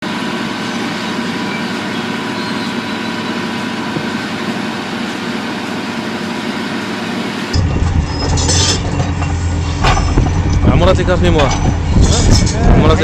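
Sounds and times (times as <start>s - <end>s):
heavy machine engine running: 0.0s - 13.0s.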